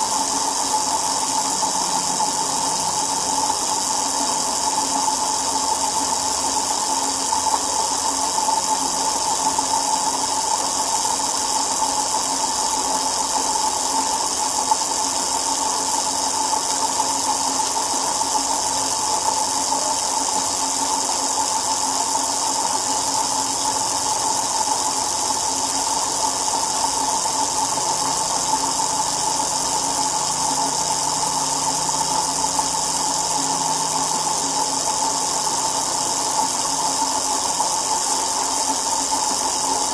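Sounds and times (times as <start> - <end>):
spinning wheel hum and whir: 0.0 - 39.9.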